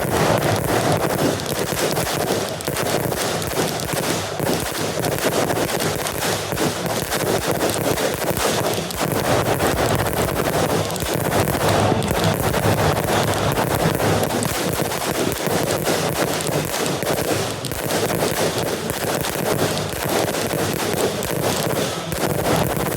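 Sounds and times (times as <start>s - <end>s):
fireworks crackling and popping: 0.0s - 22.9s.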